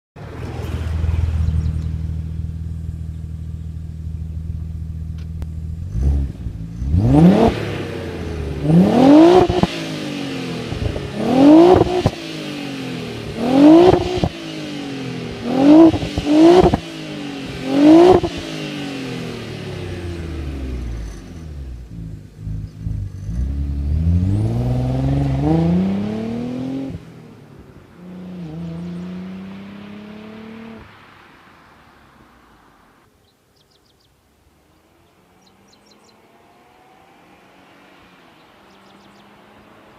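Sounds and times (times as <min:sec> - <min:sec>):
car engine revving: 0:00.2 - 0:33.1
car pulling away: 0:00.2 - 0:39.9.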